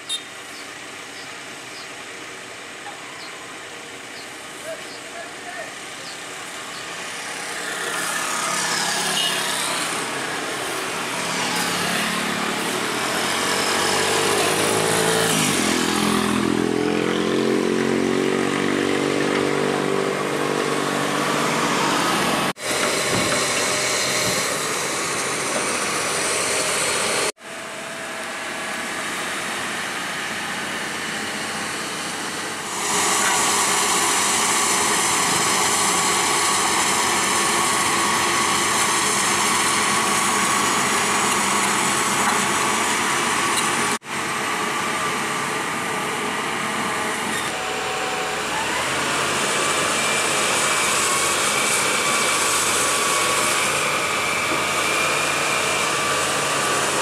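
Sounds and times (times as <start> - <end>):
excavator diesel engine revving: 5.7 - 57.0.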